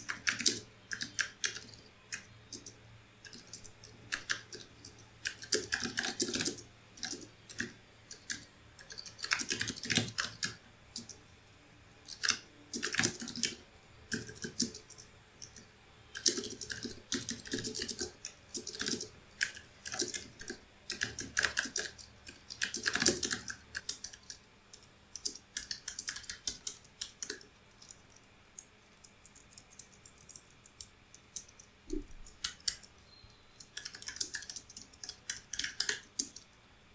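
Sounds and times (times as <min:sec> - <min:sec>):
typing on a keyboard: 0:00.0 - 0:11.2, 0:12.0 - 0:36.6.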